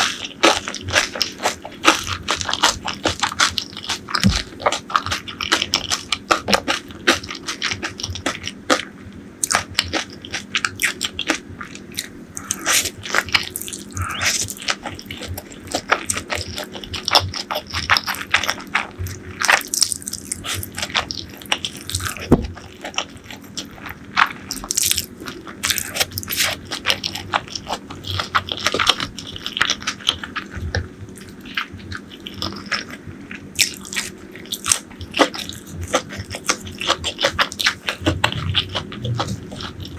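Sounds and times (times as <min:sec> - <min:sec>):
crunching fried food: 0:00.0 - 0:39.9
wet chewing: 0:00.0 - 0:39.9.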